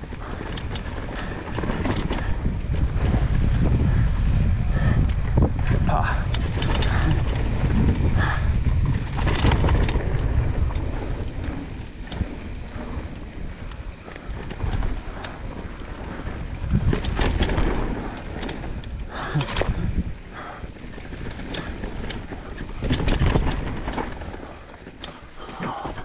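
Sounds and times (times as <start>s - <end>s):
bike clicks and rattles: 0.0s - 26.0s
wind buffeting microphone: 0.0s - 26.0s.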